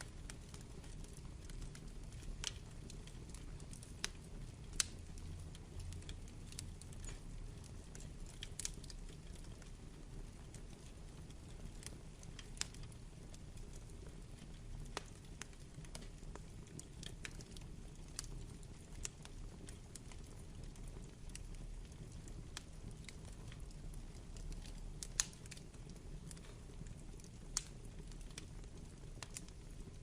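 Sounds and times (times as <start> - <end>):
logs crackling and popping: 0.0 - 30.0
low rumble of flames: 0.0 - 30.0.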